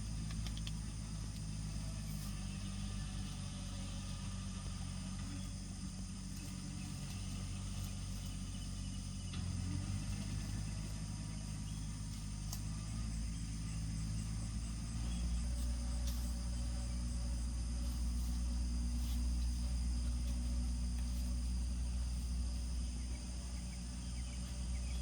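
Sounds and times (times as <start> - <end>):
insects trilling: 0.0 - 25.0
low engine-like hum: 0.0 - 25.0.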